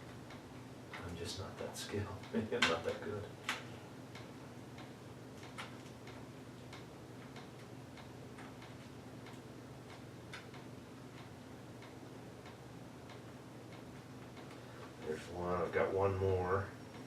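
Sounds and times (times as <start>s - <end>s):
faint regular ticking: 0.0s - 17.0s
steady low hum: 0.0s - 17.0s.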